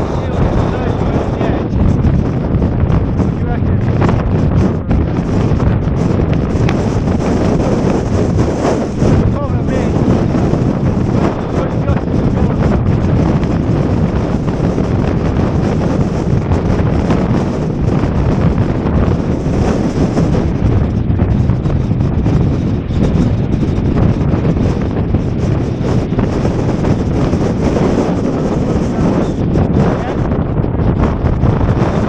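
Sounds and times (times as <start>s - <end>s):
strong wind hitting microphone: 0.0s - 32.0s.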